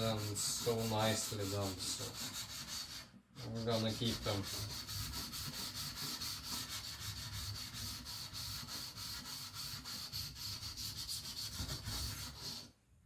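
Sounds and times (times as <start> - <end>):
knife rasping on whetstone: 0.0 - 12.7.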